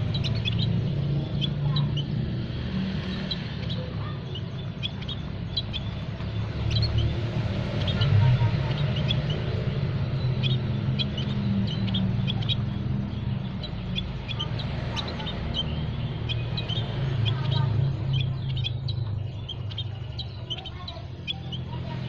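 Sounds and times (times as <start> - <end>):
songbirds chirping: 0.0 - 22.0
steady low rumble: 0.0 - 22.0.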